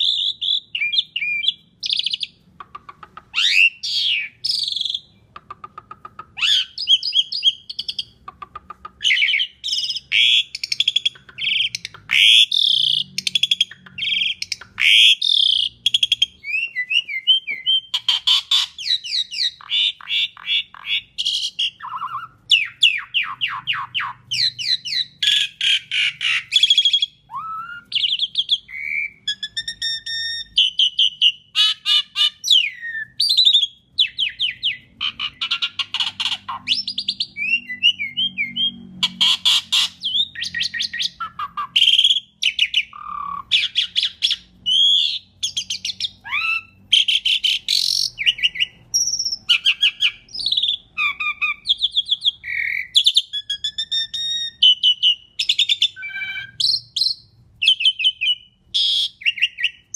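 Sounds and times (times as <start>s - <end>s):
starling singing: 0.0s - 59.9s.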